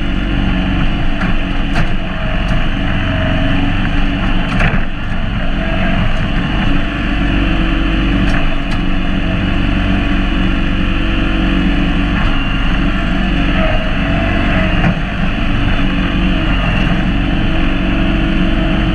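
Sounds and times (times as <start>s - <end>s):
garden tractor engine running: 0.0s - 18.9s.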